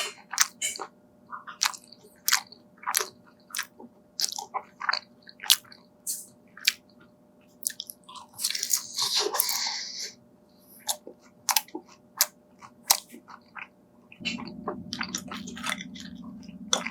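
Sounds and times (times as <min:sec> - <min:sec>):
crunching and chewing fried food: 0:00.0 - 0:05.9, 0:06.5 - 0:10.0, 0:10.8 - 0:16.9.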